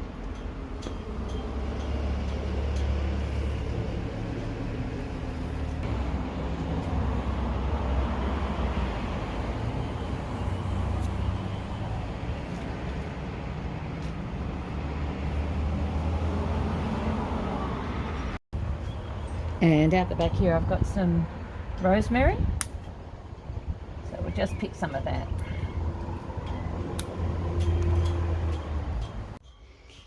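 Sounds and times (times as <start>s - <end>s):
road traffic rumble: 0.0s - 29.4s
vehicle passing by: 1.1s - 18.4s, 20.4s - 29.4s.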